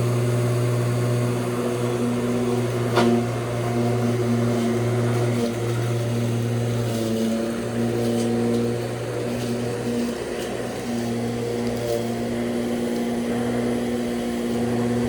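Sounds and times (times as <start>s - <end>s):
lawn mower humming: 0.0s - 15.0s.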